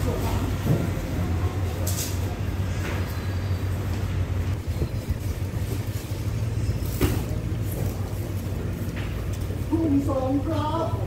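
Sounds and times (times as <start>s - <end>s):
diesel train idling: 0.0s - 11.0s.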